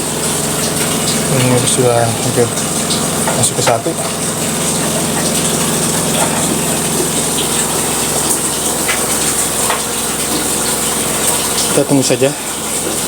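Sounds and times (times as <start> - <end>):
spin-dryer motor hum: 0.0 - 13.0
water rushing and draining: 0.0 - 13.0.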